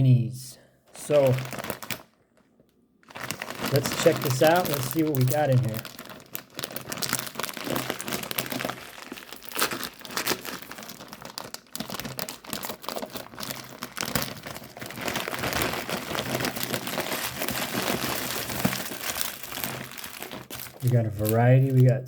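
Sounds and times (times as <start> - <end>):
plastic packaging crinkling: 0.9 - 22.0.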